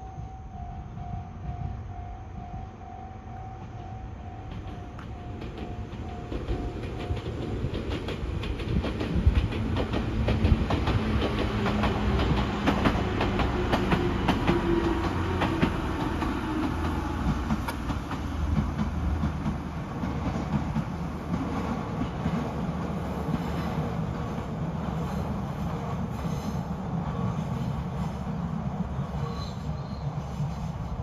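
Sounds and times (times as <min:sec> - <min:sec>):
train wheels clicking over rail joints: 0:00.1 - 0:31.0.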